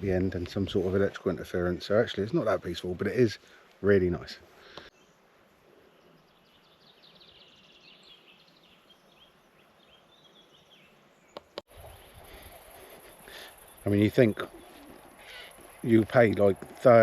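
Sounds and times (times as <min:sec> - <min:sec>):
faint birdsong chirps: 0:00.0 - 0:17.0
outdoor background noise: 0:00.0 - 0:17.0.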